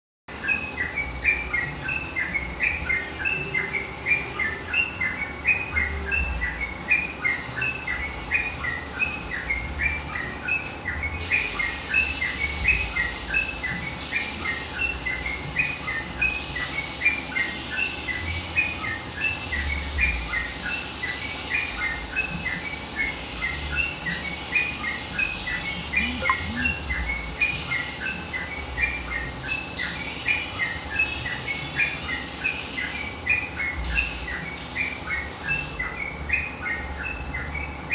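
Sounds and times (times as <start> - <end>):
bird chirping song: 0.3 - 37.9.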